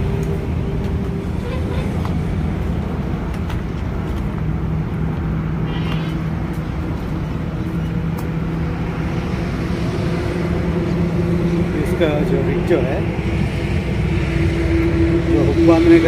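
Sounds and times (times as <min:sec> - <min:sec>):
low droning rumble: 0:00.0 - 0:16.0.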